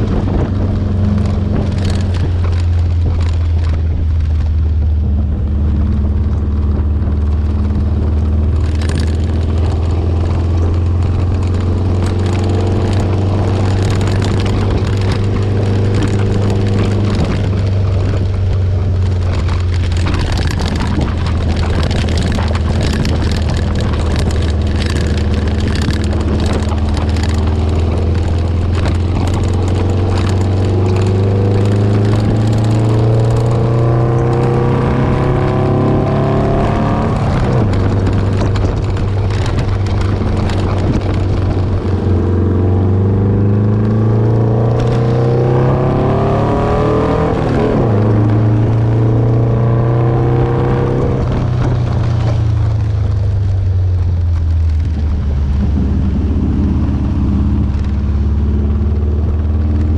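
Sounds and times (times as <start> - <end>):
car engine running: 0.0 - 59.9
road and wind noise: 0.0 - 59.9.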